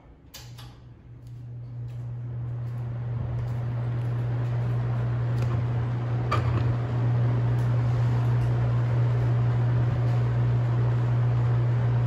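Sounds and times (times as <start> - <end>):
electric fan motor hum: 0.0 - 12.0
fan blades rushing: 0.0 - 12.0.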